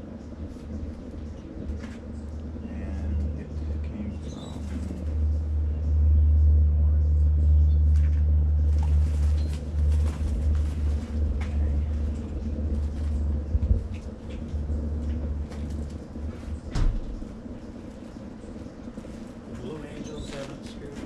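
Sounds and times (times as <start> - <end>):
jet aircraft rumble overhead: 0.0 - 21.0.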